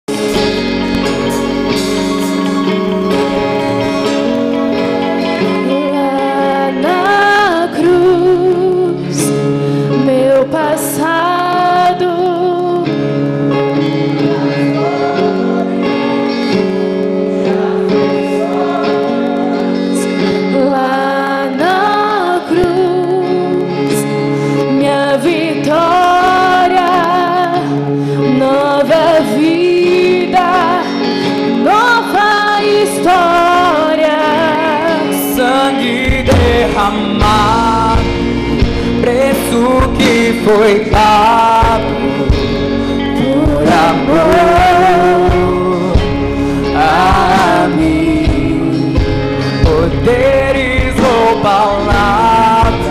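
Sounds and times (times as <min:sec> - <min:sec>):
held keyboard chords: 0:00.1 - 0:52.9
woman singing into a microphone: 0:05.4 - 0:15.8, 0:16.6 - 0:52.9.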